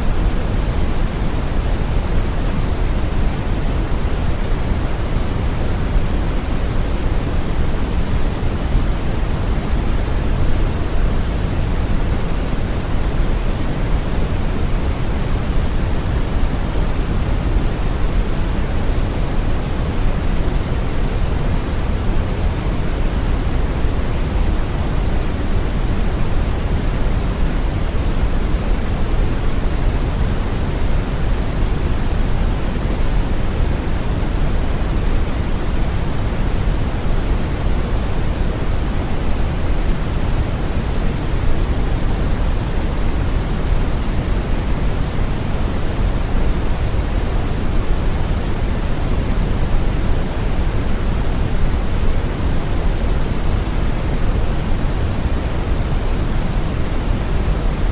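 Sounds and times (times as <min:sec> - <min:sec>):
brown noise hiss: 0:00.0 - 0:57.9.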